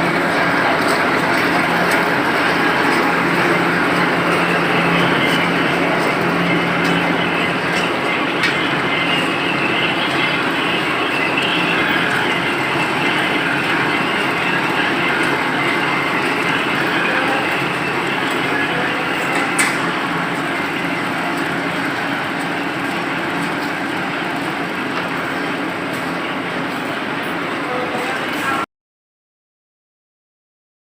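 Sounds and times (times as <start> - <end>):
printing machine clattering: 0.0 - 28.6.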